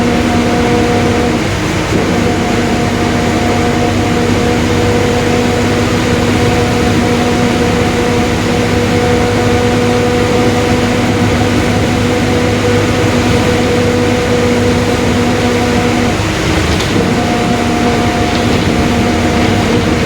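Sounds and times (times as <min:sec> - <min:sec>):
bus diesel engine cruising: 0:00.0 - 0:20.0
differential whine: 0:00.0 - 0:20.0
road noise: 0:00.0 - 0:20.0.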